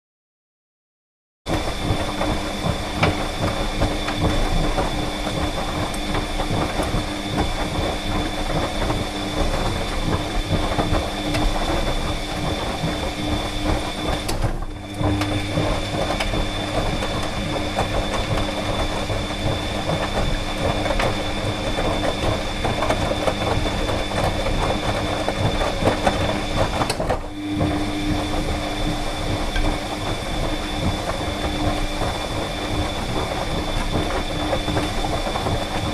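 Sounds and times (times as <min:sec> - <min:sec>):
tumble dryer hum and whine: 0:01.5 - 0:35.9.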